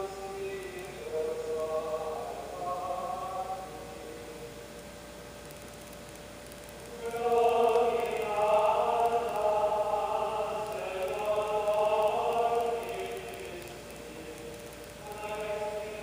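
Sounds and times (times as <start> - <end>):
choir chanting held notes: 0.0 - 4.5, 6.9 - 16.0.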